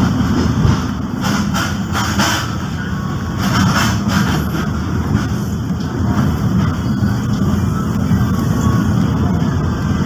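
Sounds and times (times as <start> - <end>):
train engine: 0.0 - 10.0
train wheels rumbling on track: 0.0 - 10.0.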